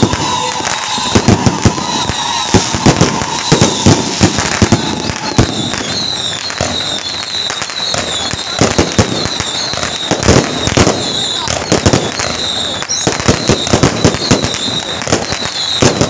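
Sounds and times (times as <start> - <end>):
firecrackers banging: 0.0 - 16.0.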